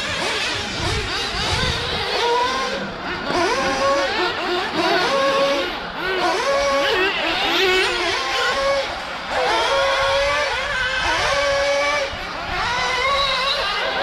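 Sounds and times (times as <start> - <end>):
racing engines accelerating: 0.0 - 14.0.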